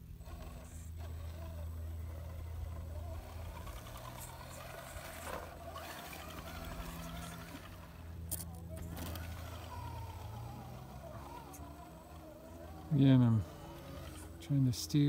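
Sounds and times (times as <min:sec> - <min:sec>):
rc truck motor whirring: 0:00.0 - 0:15.0.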